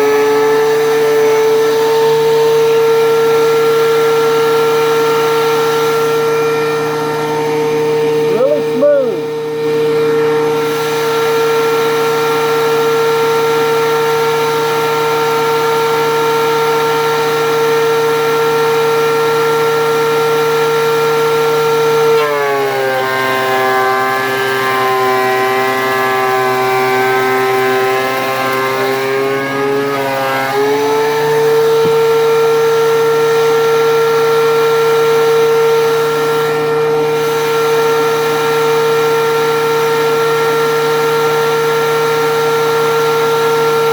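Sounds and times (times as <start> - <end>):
thickness planer whining: 0.0 - 43.9.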